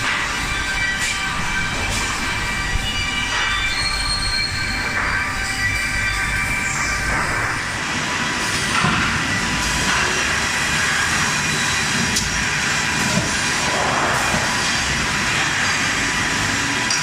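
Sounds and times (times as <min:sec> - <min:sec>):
steady whining tones: 0:00.0 - 0:13.6
machinery clatter: 0:00.0 - 0:17.0.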